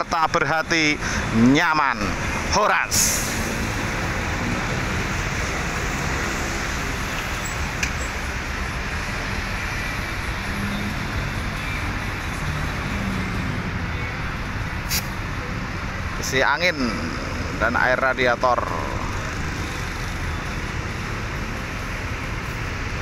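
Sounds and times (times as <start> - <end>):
traffic engine rumble: 0.0 - 23.0.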